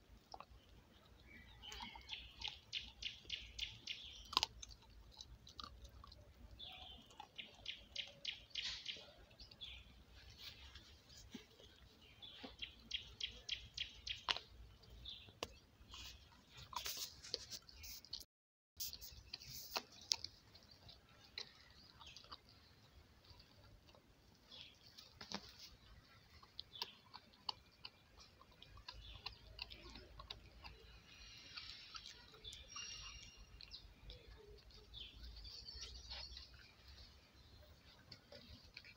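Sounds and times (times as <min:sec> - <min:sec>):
puppy crunching on bones: 0:00.0 - 0:37.1, 0:37.9 - 0:38.9.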